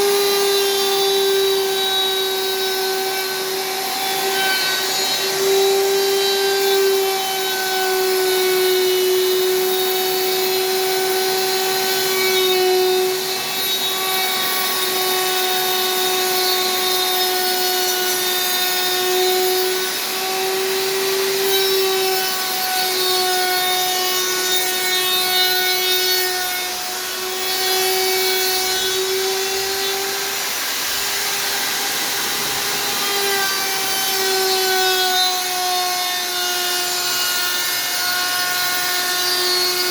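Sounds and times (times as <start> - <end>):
blade cutting wood: 0.0 - 39.9
power tool motor whine: 0.0 - 39.9.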